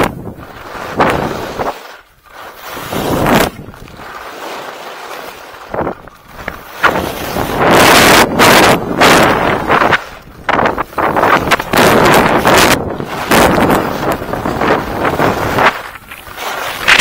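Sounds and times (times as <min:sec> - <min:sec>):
skis scraping on hard snow: 0:00.0 - 0:17.0
wind on microphone: 0:00.0 - 0:17.0.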